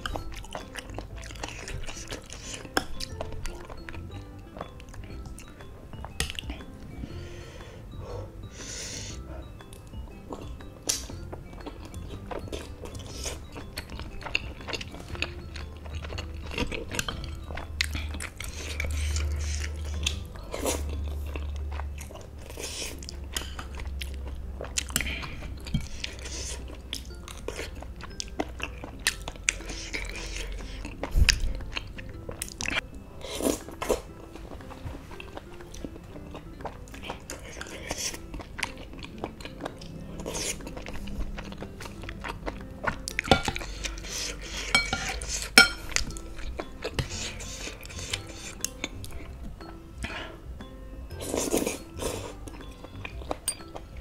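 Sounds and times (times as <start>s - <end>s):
chewing and slurping noodles: 0.0s - 50.5s, 51.1s - 54.0s.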